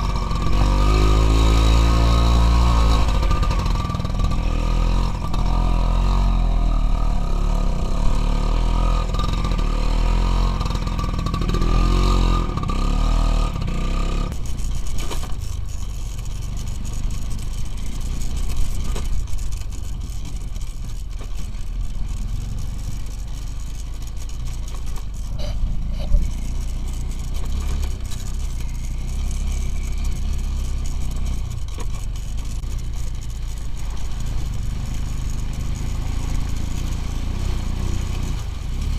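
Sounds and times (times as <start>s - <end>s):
clatter and scrapes: 0.0s - 38.9s
motorcycle engine revving: 0.0s - 38.9s.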